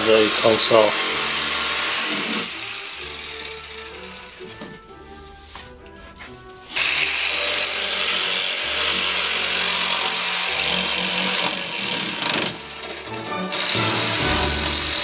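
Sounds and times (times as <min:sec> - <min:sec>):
power saw cutting plywood: 0:00.0 - 0:04.9, 0:06.6 - 0:15.0.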